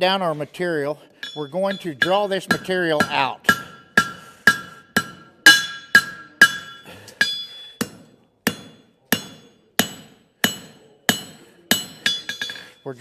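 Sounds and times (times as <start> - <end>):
hammer striking horseshoe on anvil: 1.2 - 12.8.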